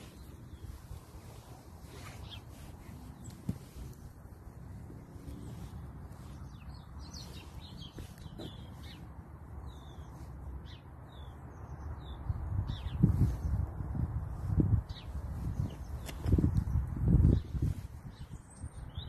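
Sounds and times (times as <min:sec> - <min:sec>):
small birds chirping: 0:00.0 - 0:19.0
wind rumble on microphone: 0:00.0 - 0:19.0.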